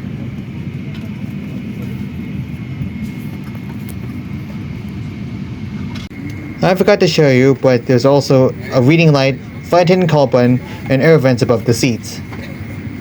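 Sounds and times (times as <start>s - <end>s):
aircraft cabin low rumble: 0.0s - 13.0s
faint high whine: 0.0s - 13.0s.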